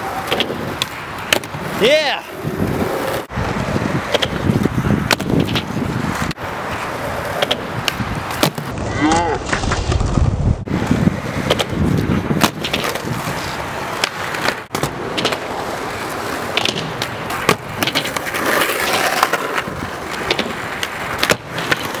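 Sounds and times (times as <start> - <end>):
skateboard clacking on ground: 0.0 - 10.0, 10.8 - 22.0
skateboard wheels rolling on asphalt: 0.0 - 22.0.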